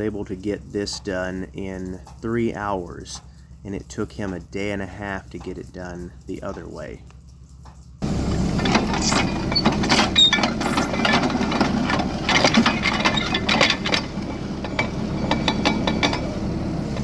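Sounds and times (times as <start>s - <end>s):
engine low rumble: 0.0s - 17.0s
metal clanks and rattles: 0.0s - 17.0s.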